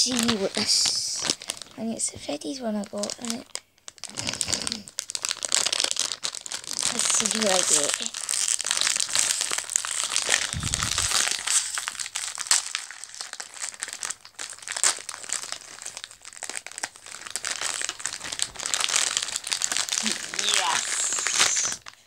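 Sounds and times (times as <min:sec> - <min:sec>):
foil wrapper crinkling: 0:00.0 - 0:22.0.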